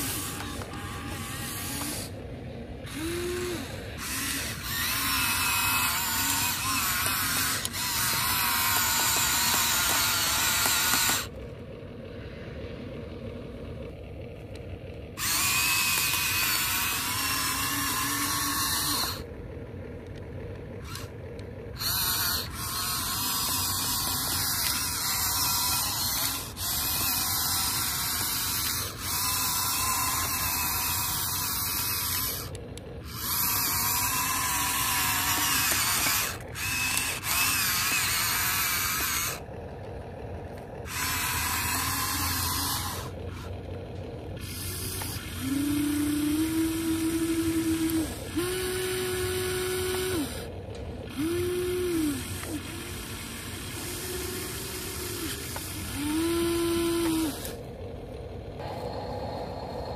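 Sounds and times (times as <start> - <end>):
toy excavator motors whirring: 0.0 - 59.9.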